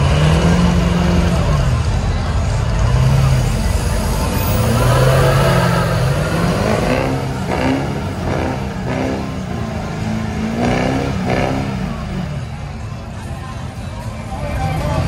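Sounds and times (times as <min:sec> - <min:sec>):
diesel truck engines revving: 0:00.0 - 0:15.0.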